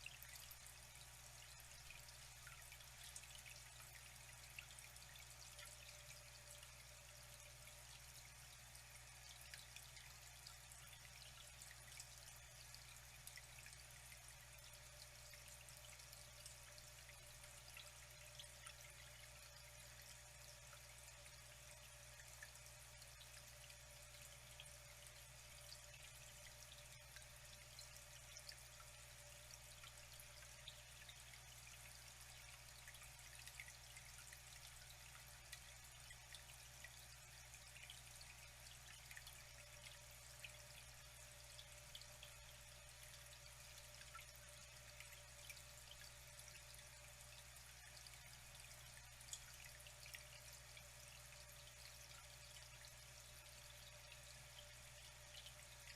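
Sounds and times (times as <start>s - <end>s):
water drips and splashes: 0.0s - 55.9s
water trickling: 0.0s - 55.9s.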